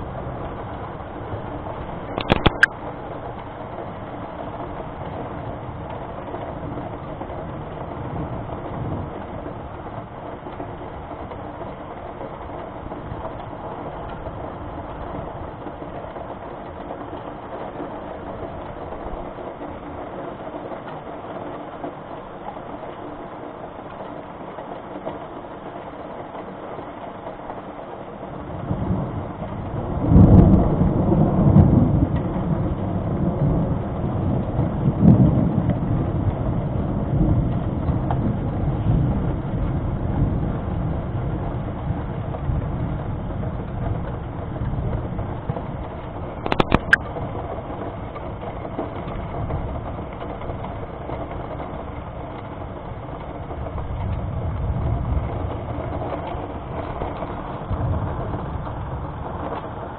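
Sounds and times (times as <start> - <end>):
thunder rumbling: 0.0 - 20.6, 28.3 - 59.9
rain hissing: 0.0 - 59.9.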